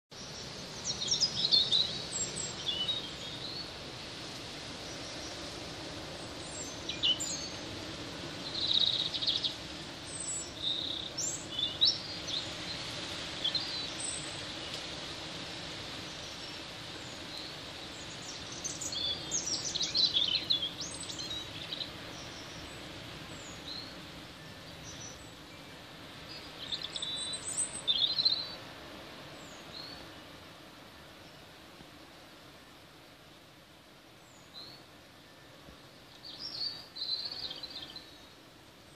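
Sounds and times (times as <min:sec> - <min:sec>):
small birds chirping: 0:00.1 - 0:03.9, 0:04.8 - 0:15.0, 0:15.7 - 0:31.5, 0:34.2 - 0:38.9
rain hiss: 0:00.1 - 0:38.9
wind: 0:00.1 - 0:38.9.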